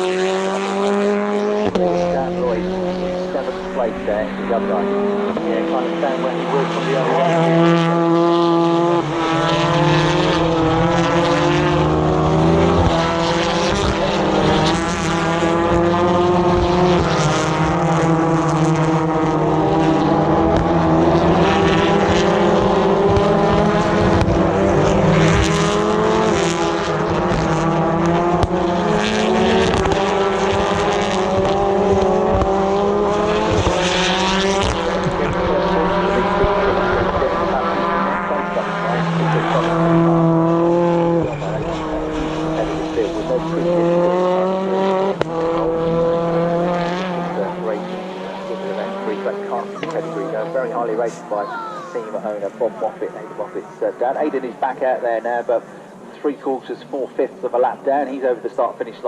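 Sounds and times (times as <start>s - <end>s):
racing car engines passing: 0.0s - 59.0s.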